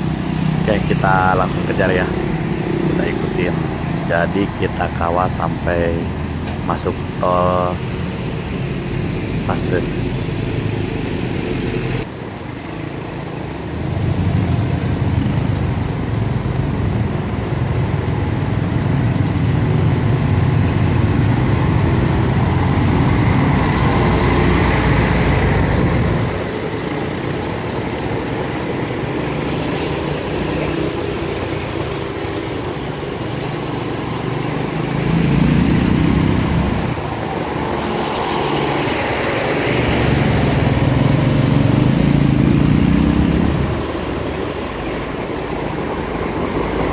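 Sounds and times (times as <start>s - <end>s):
car and truck engines: 0.0s - 46.9s
low traffic rumble: 0.0s - 46.9s
motorcycle engines: 0.0s - 46.9s.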